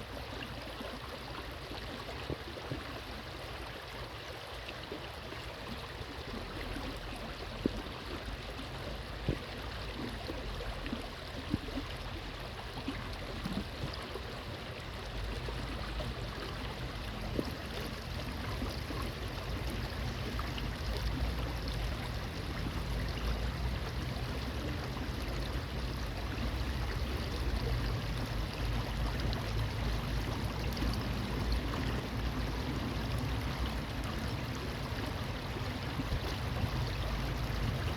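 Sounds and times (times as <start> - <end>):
small water splashes: 0.0 - 37.9
stream water running: 0.0 - 37.9.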